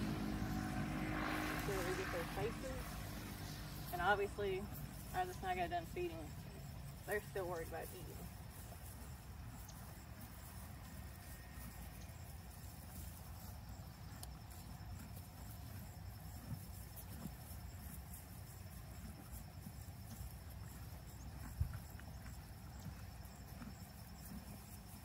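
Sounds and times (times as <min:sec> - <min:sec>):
insects chirping: 0:00.0 - 0:25.0
low outdoor rumble: 0:00.0 - 0:25.0.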